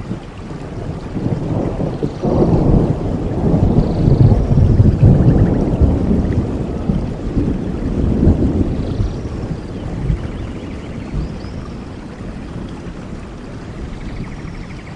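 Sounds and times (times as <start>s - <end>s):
steady rain: 0.0s - 14.9s
thunder rumbling: 0.0s - 14.9s.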